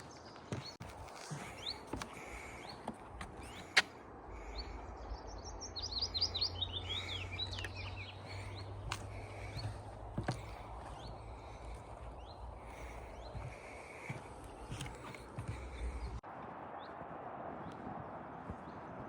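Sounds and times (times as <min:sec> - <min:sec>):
small songbirds chirping: 0:00.0 - 0:16.2.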